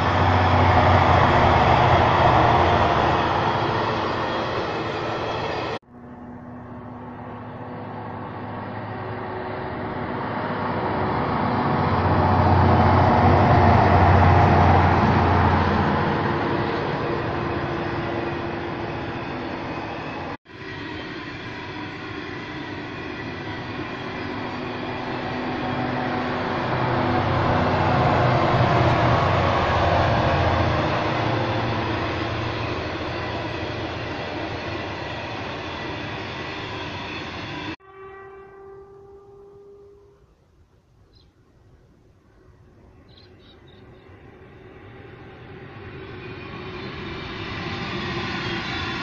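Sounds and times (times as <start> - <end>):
train wheels on rails: 0.0 - 37.8, 43.0 - 49.0
low locomotive drone: 0.0 - 49.0.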